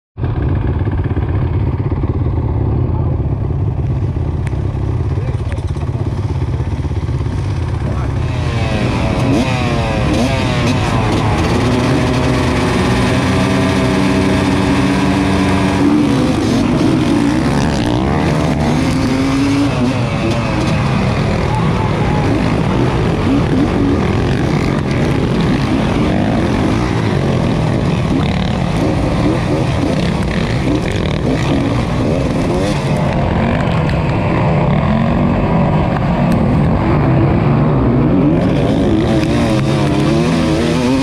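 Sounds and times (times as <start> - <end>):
motorbike engines idling: 0.2 - 36.7
motorbike engines revving: 0.2 - 41.0
motorbikes launching full throttle: 4.9 - 41.0.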